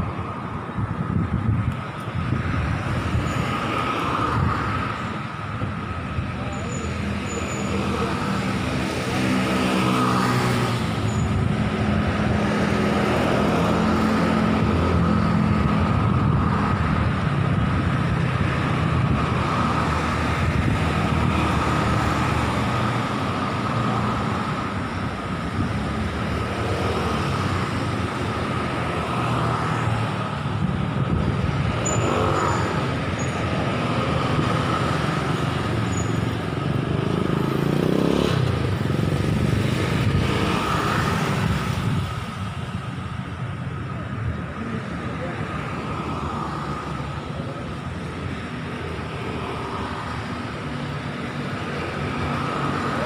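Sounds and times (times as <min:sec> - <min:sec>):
motorcycles passing: 0:00.0 - 0:53.0
street traffic: 0:00.0 - 0:53.0.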